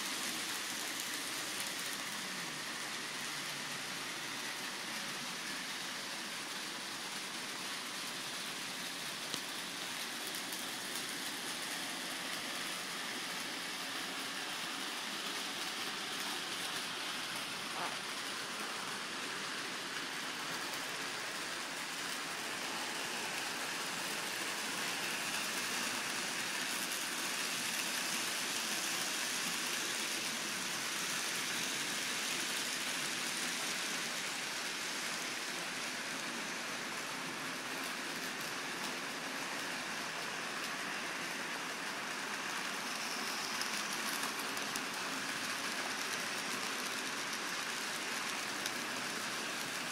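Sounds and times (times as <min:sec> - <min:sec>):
model trains running on track: 0:00.0 - 0:49.9.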